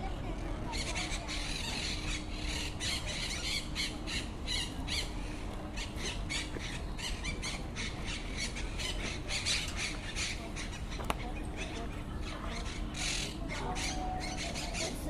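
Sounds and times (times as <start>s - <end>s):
nestlings' raspy calls: 0.7s - 15.0s.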